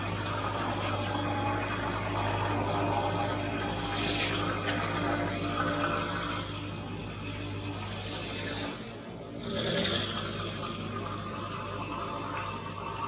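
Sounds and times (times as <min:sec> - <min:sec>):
low motor-like hum: 0:00.0 - 0:13.0.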